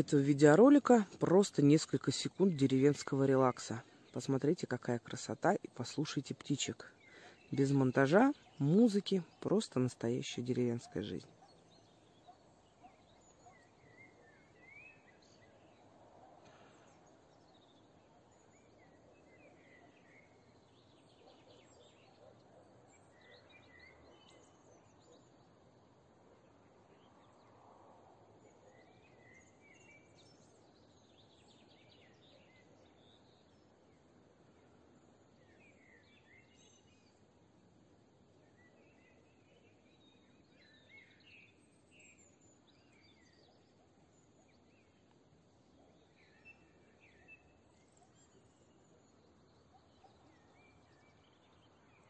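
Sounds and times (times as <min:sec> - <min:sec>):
songbird chirps and calls: 0:00.0 - 0:52.0
steady outdoor background hiss: 0:00.0 - 0:52.0.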